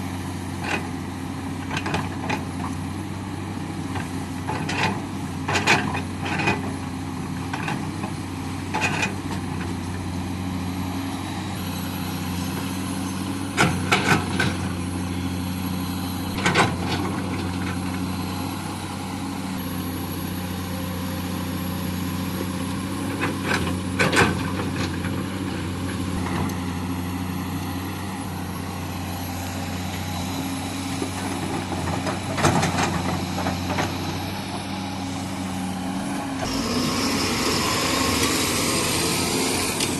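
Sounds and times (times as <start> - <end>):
truck diesel engine humming: 0.0 - 39.9.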